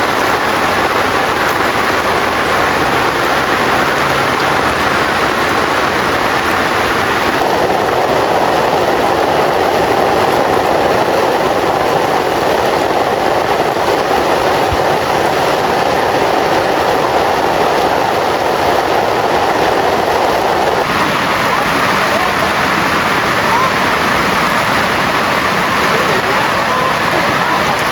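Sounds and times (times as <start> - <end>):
heavy rain: 0.0 - 27.9.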